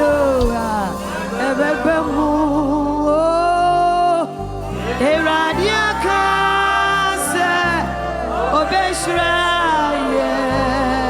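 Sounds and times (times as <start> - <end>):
bass and instruments: 0.0 - 11.0
person singing worship song: 0.0 - 11.0.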